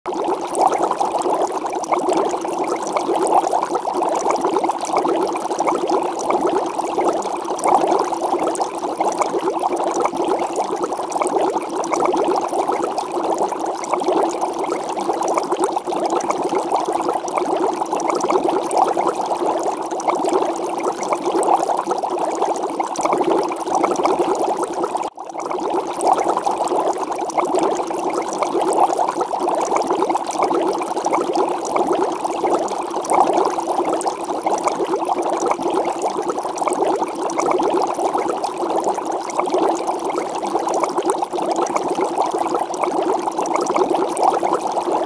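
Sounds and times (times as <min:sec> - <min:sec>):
water boiling in a pot: 0:00.1 - 0:45.0.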